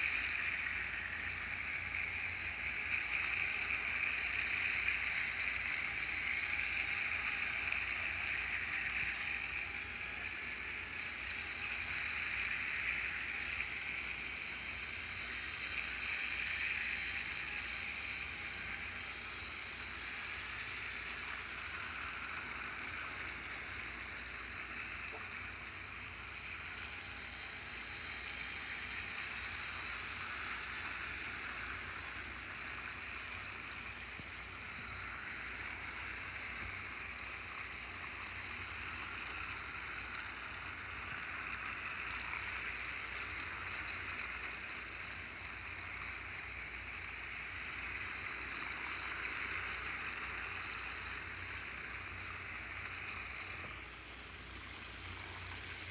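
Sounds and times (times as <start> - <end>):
toy train motors whirring: 0.0 - 55.9.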